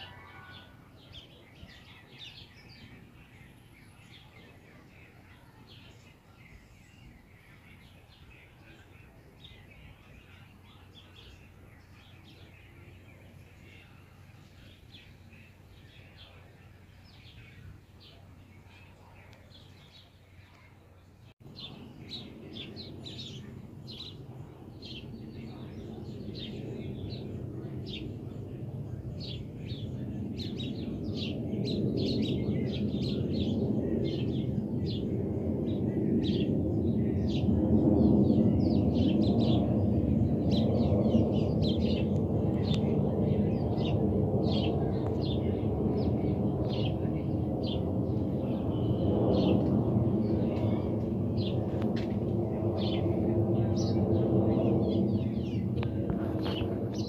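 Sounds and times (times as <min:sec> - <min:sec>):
jet plane flying overhead: 0:00.0 - 0:57.0
small birds chirping: 0:00.0 - 0:57.0.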